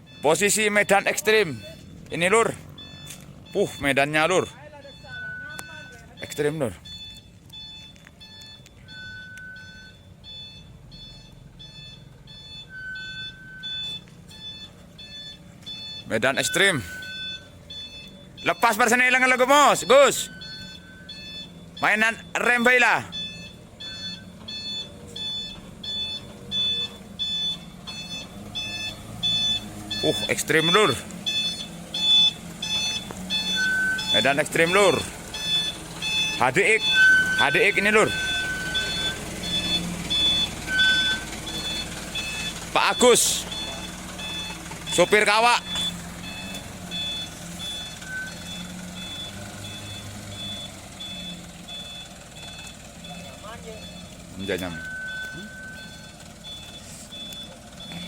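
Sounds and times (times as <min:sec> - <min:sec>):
truck engine running: 0:00.0 - 0:58.0
truck reversing beeper: 0:00.0 - 0:58.0.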